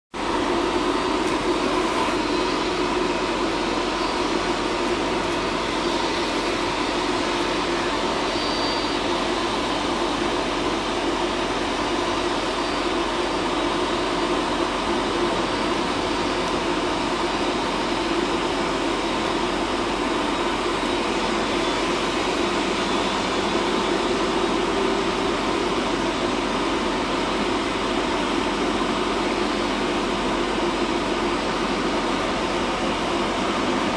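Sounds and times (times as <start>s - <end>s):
jet engines whining at idle: 0.1s - 33.9s.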